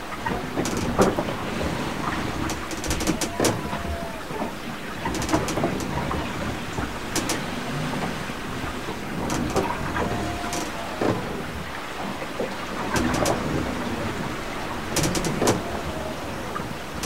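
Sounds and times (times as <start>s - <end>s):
water rushing along hull: 0.0s - 17.0s
boat fittings clicking and knocking: 0.2s - 8.2s, 8.8s - 11.5s, 12.4s - 17.0s
short creak: 0.6s - 1.3s, 1.9s - 8.2s, 8.9s - 11.5s, 12.8s - 17.0s.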